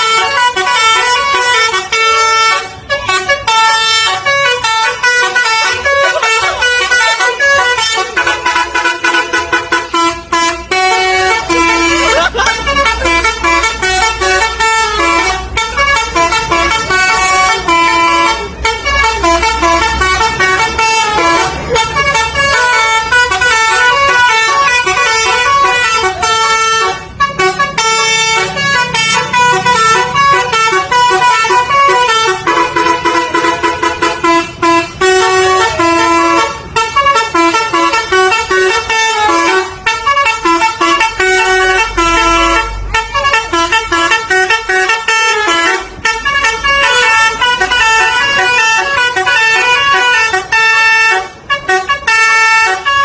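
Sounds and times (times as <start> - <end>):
musical bus horn melody: 0.0 - 53.0.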